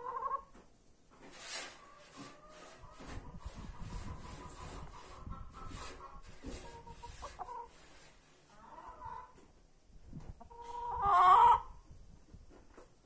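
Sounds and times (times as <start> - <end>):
hens clucking: 0.0 - 9.6, 10.2 - 11.9.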